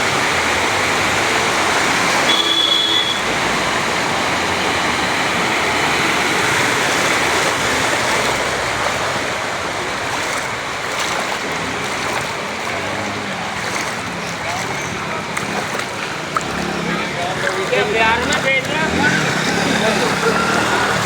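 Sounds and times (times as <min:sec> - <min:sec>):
rushing floodwater: 0:00.0 - 0:21.0.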